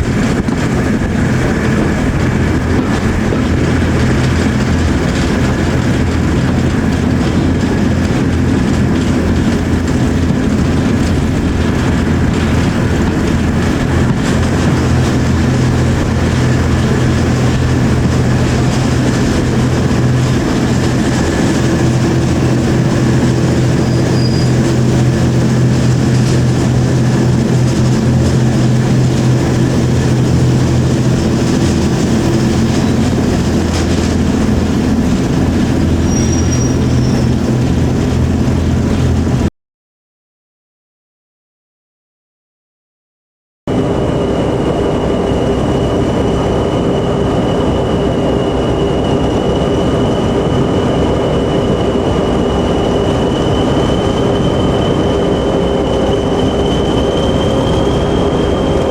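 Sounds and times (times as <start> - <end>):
diesel locomotive engine: 0.0 - 39.5, 43.7 - 58.9
train running on track: 0.0 - 39.5, 43.7 - 58.9.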